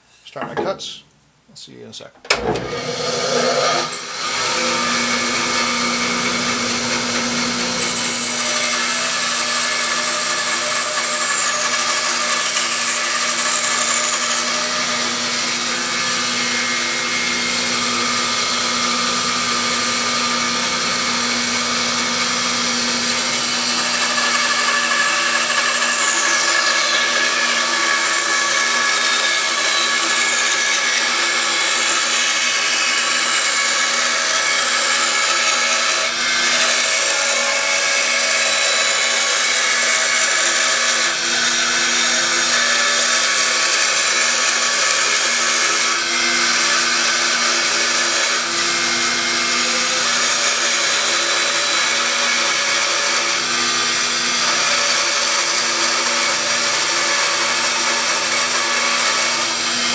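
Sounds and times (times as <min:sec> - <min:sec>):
band saw cutting wood: 0:02.3 - 0:59.9.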